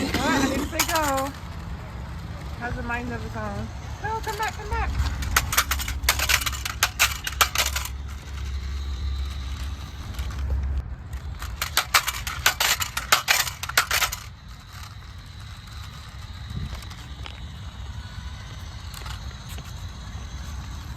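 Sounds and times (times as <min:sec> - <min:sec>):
toy car clicking and rattling: 0:00.0 - 0:20.9.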